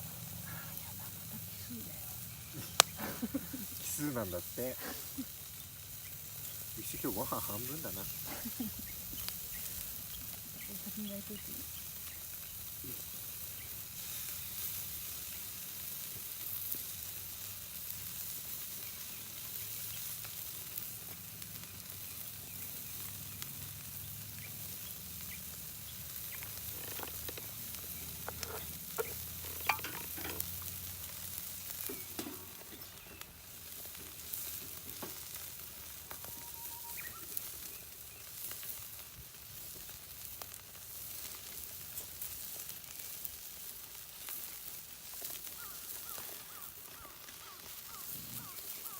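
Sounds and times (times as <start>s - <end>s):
meat sizzling on a grill: 0.0s - 48.9s.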